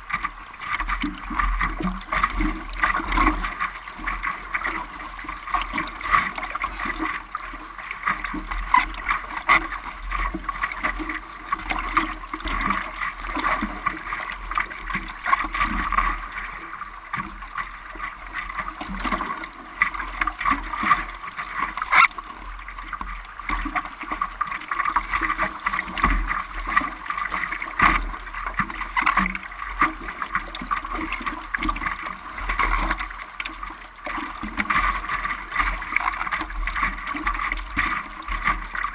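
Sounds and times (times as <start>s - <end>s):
ocean water splashing in surf: 0.0s - 38.9s.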